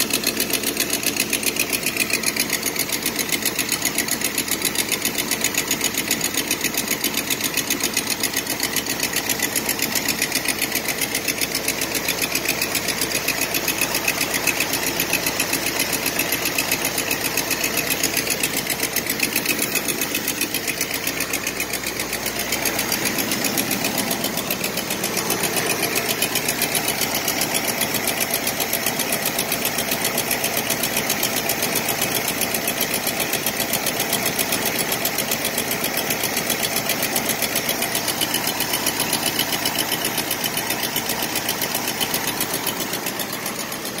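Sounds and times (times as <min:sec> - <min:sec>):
car engine idling: 0:00.0 - 0:44.0
fast even engine ticking: 0:00.0 - 0:44.0.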